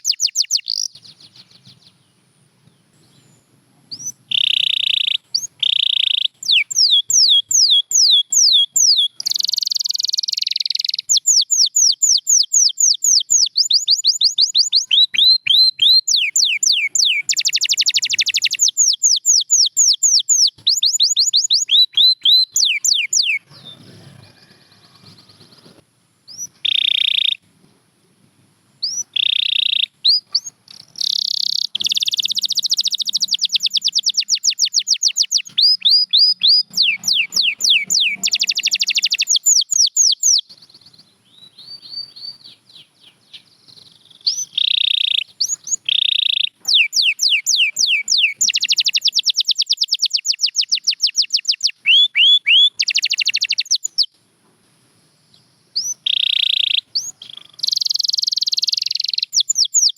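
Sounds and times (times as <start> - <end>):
canary singing trills: 0.0 - 2.2, 2.8 - 27.4, 28.8 - 54.2, 55.3 - 59.9.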